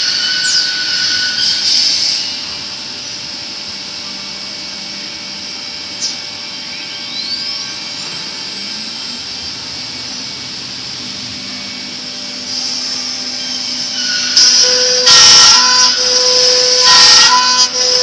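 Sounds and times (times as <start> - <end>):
dust extraction hiss: 0.0 - 18.0
router spindle whining: 0.0 - 18.0.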